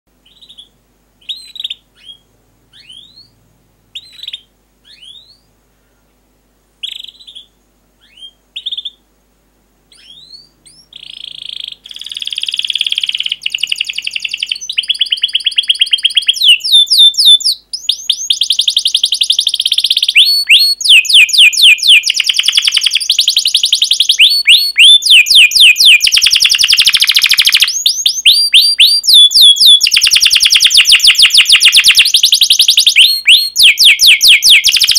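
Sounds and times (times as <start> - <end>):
canary singing: 0.1 - 5.5, 6.8 - 9.0, 9.9 - 34.9.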